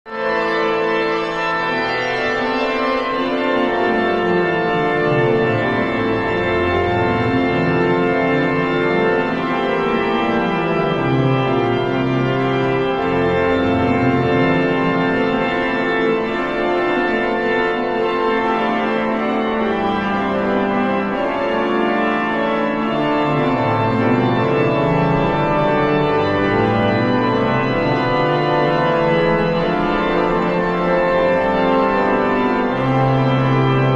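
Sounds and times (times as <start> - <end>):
pipe organ chords: 0.1 - 33.9.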